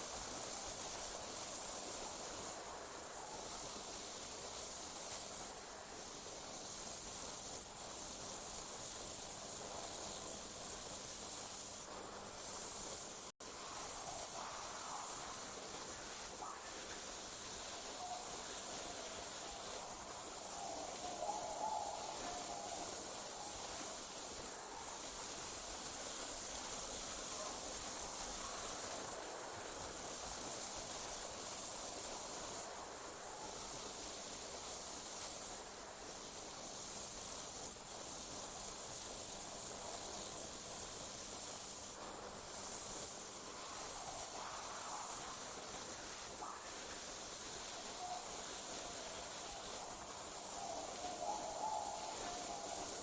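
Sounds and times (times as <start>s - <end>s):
night insects trilling: 0.0s - 53.0s.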